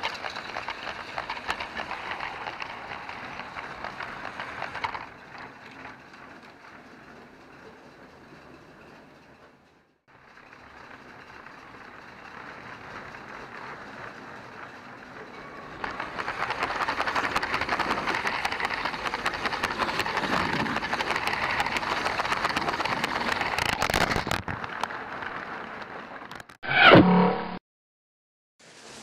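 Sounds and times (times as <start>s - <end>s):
toy train rattling on plastic track: 0.0s - 26.5s.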